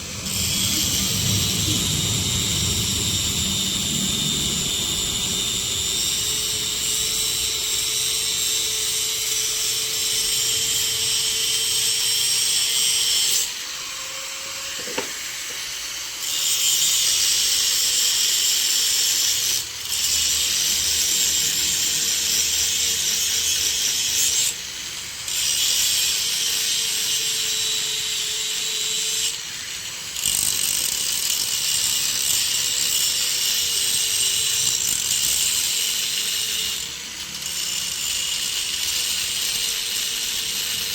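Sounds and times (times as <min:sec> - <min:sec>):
angle grinder cutting metal: 0:00.0 - 0:40.9.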